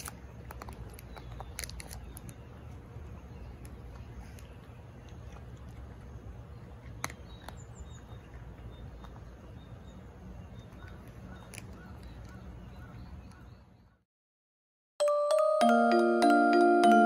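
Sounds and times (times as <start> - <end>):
distant bird calls: 0.1 - 14.0.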